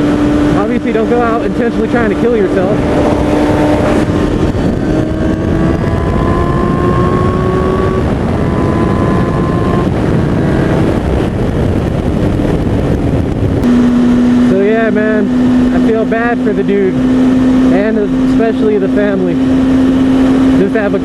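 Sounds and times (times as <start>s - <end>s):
motorcycle engine accelerating: 0.0s - 21.0s
wind on microphone: 0.0s - 21.0s.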